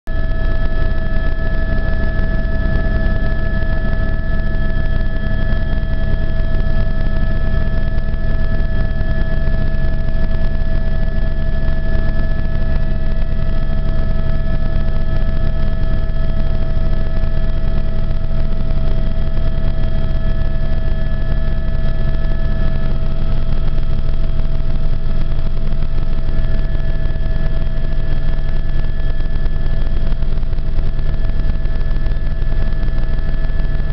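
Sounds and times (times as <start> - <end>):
helicopter rotor and engine rumble: 0.1 - 33.9
high whine: 0.1 - 33.9.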